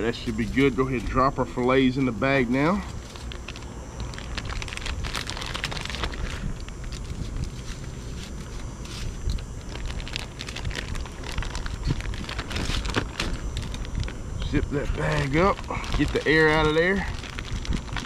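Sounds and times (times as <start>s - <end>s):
steady low rumble: 0.0s - 18.0s
plastic bag crinkling: 1.8s - 18.0s.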